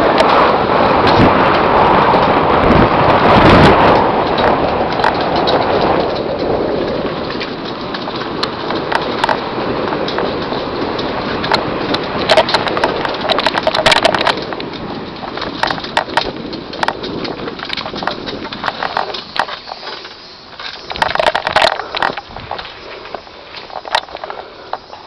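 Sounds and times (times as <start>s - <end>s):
bike clattering over rough ground: 0.0s - 25.0s
tyres rushing on dirt: 0.0s - 25.0s.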